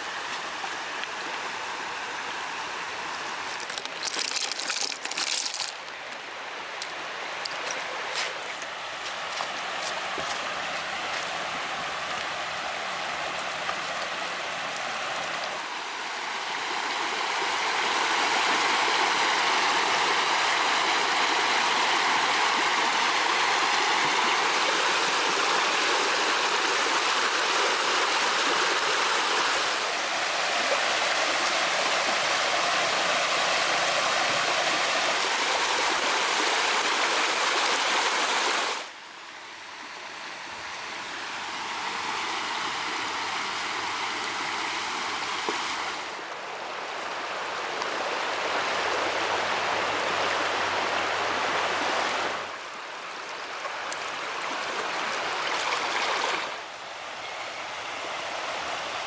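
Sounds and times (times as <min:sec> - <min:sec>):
water rushing: 0:00.0 - 0:39.0, 0:39.8 - 0:59.0.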